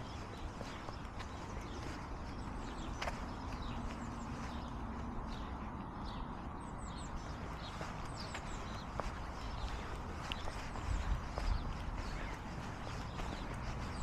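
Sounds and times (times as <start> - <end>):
footsteps on paving slabs: 0.0 - 14.0
small birds chirping: 0.0 - 14.0.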